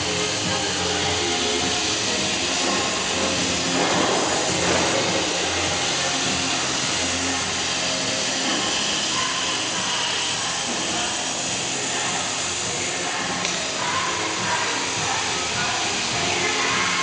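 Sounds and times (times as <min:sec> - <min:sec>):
background music: 0:00.0 - 0:17.0
cutting torch hissing: 0:00.0 - 0:17.0.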